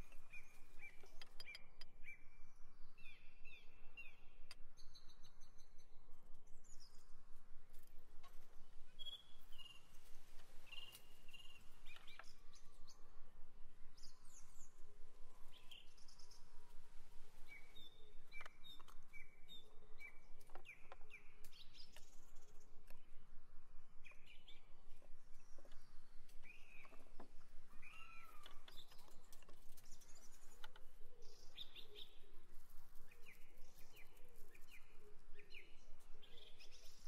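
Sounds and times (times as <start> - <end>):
wild birds chirping: 0.0 - 37.0.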